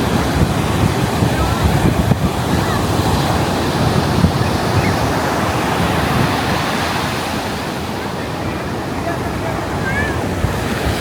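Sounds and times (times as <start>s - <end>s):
ocean surf washing onto beach: 0.0s - 11.0s
wind buffeting microphone: 0.0s - 11.0s.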